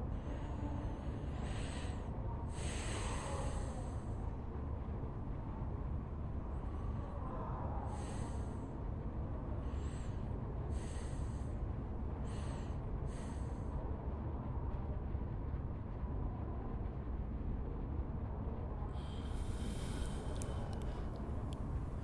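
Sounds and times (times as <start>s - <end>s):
low ambient rumble: 0.0s - 22.0s.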